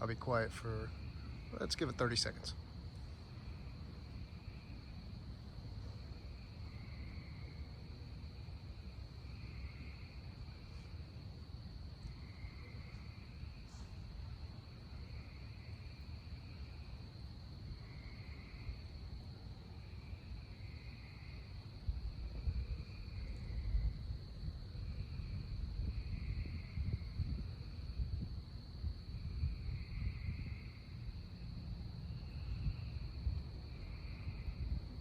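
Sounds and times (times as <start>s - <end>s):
frogs calling in trills: 0.0s - 5.2s, 5.8s - 24.1s, 24.7s - 27.9s, 29.1s - 31.5s
high insect trill: 0.0s - 35.0s.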